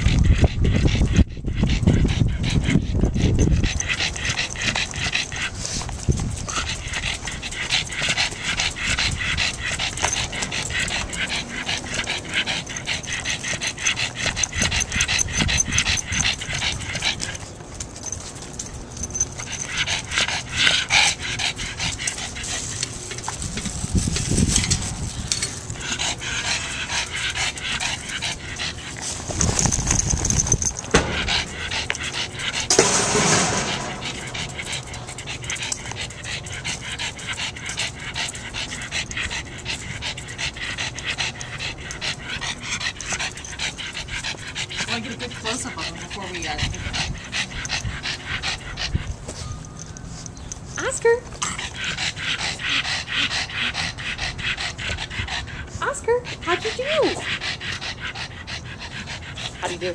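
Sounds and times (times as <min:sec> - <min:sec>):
dog panting: 0:00.0 - 0:59.9.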